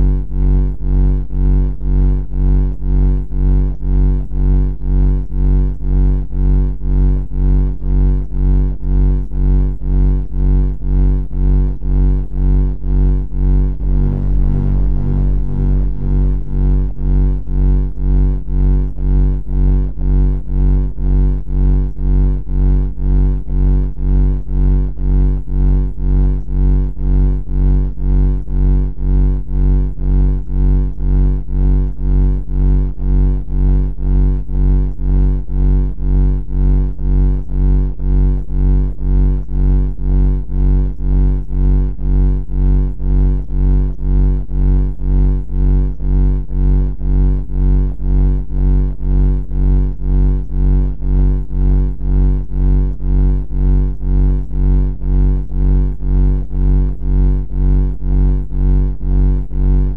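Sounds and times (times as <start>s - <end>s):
throbbing low droning buzz: 0.0s - 59.9s.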